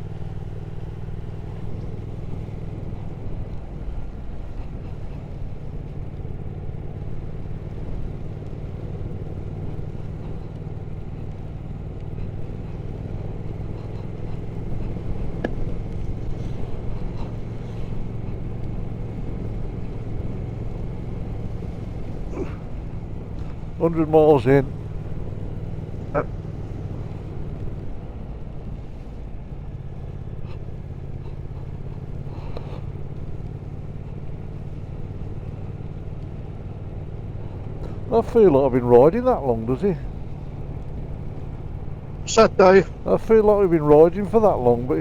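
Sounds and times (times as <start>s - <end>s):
motorcycle engine running: 0.0s - 45.0s
road noise: 0.0s - 45.0s.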